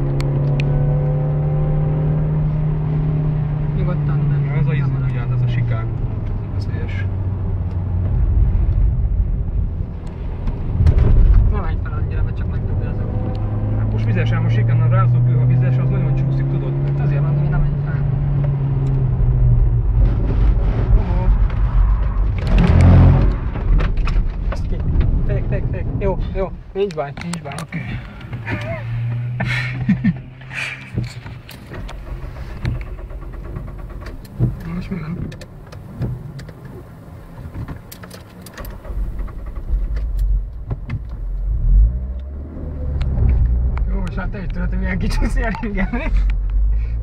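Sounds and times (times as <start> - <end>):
car engine inside cabin: 0.0 - 47.0
rumbling rush of tyres: 0.0 - 47.0.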